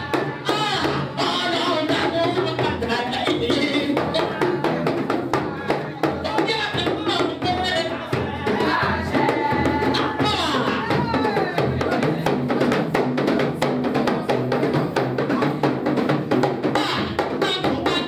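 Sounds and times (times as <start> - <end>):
dance music with rapid drumming: 0.0 - 18.0.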